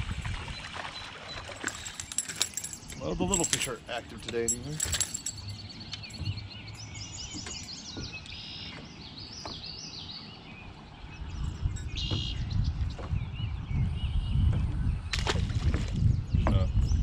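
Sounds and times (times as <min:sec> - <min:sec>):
wind rumble: 0:00.0 - 0:17.0
songbirds chirping and singing: 0:00.3 - 0:17.0.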